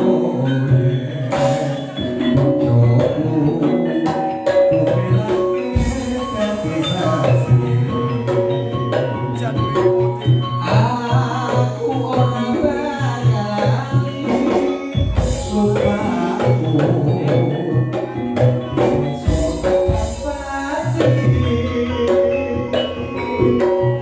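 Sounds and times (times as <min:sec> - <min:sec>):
mallet percussion ringing: 0:00.0 - 0:24.0
drum beat: 0:01.3 - 0:21.7.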